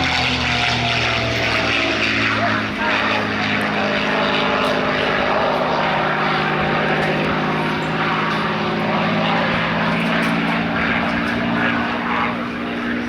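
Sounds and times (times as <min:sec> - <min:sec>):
propeller plane engine: 0:00.0 - 0:13.0.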